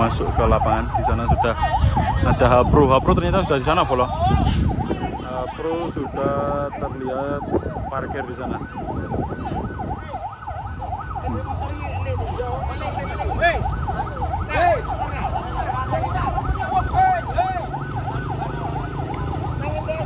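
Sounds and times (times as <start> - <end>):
electronic siren yelping: 0.0 - 20.0
truck engines running: 0.0 - 20.0.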